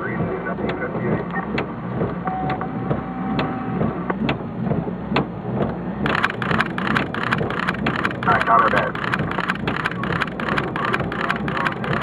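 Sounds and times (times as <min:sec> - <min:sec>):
steady low hum: 0:00.0 - 0:12.0
steady tone: 0:00.0 - 0:12.0
raindrops ticking: 0:00.1 - 0:12.0.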